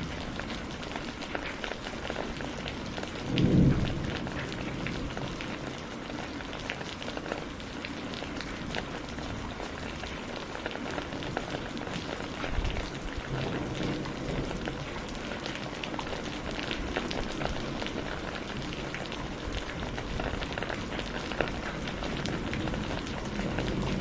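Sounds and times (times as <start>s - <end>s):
raindrops ticking: 0.0s - 24.0s
steady rain falling: 0.0s - 24.0s.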